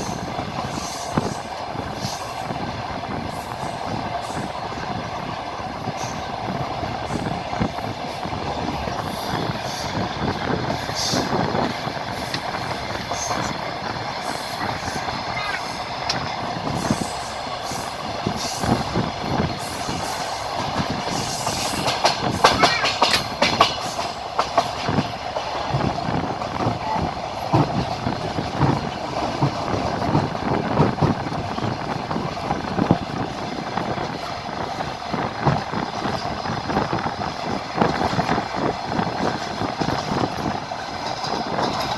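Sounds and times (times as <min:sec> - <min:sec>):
train running rumble: 0:00.0 - 0:41.9
train wheels clattering over rail joints: 0:00.0 - 0:41.9.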